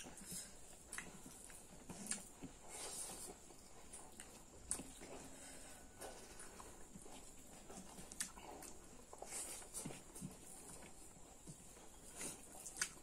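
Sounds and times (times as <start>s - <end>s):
chewing and lip smacks: 0.0s - 13.0s.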